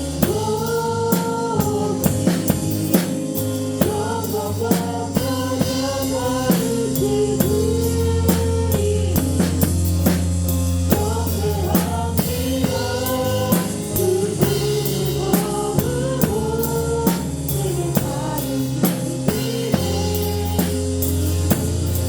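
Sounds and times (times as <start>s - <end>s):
drum kit beat: 0.0s - 22.0s
sustained keyboard chords: 0.0s - 22.0s.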